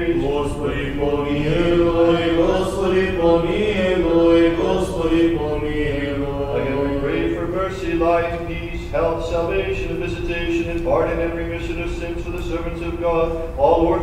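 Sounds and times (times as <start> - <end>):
man chanting a hymn: 0.0 - 14.0.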